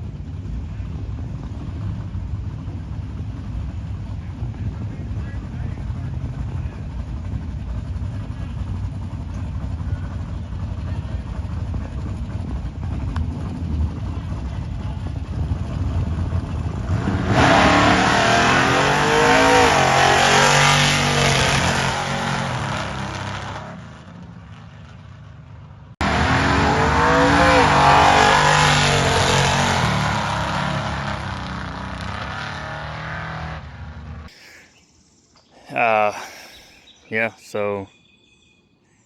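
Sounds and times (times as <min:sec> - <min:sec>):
drag car engine revving: 0:00.0 - 0:25.2, 0:26.0 - 0:34.3.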